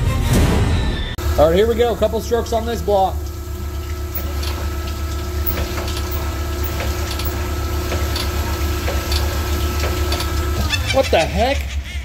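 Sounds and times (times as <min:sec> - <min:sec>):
cylinder hone motor humming: 0:01.2 - 0:11.7
oil splashing: 0:01.5 - 0:11.4.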